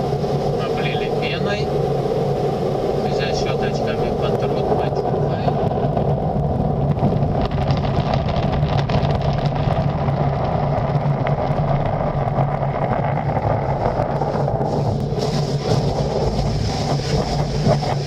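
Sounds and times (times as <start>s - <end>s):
car wash water jets spraying: 0.0s - 18.0s
low hum: 0.0s - 18.0s.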